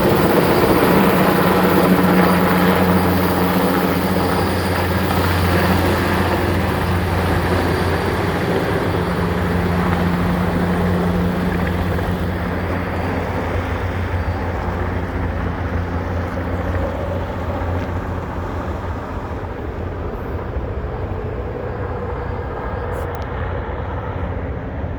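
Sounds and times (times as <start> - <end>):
helicopter rotor drone: 0.0 - 24.9.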